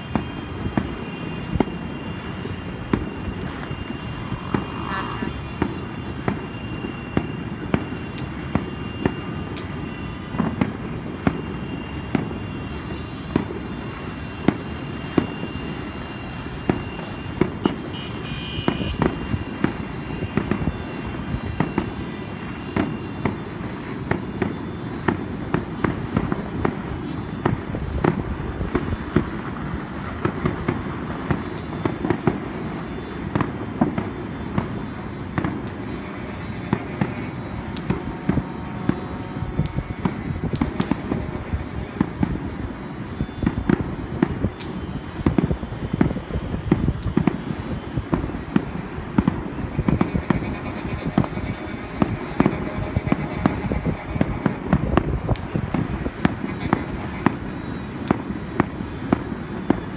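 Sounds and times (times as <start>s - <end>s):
constant low rumble: 0.0s - 59.9s
distant fireworks bangs: 0.0s - 59.9s.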